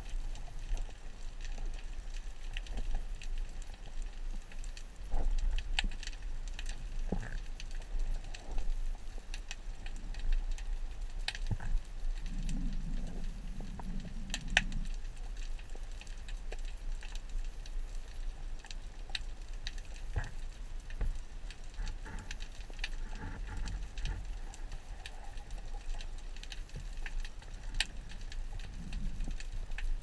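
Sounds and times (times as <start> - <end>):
low underwater rumble: 0.0 - 18.6, 19.3 - 30.0
underwater crackle of sharp clicks: 0.0 - 30.0.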